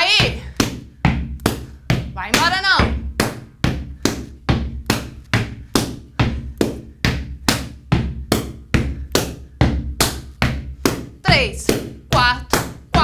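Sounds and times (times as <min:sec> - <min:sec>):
hands slapping rubber boots: 0:00.4 - 0:13.0.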